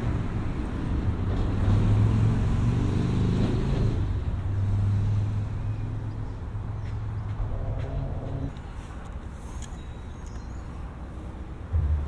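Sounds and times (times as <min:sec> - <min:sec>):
traffic rumbling over steel bridge: 0:00.0 - 0:12.0.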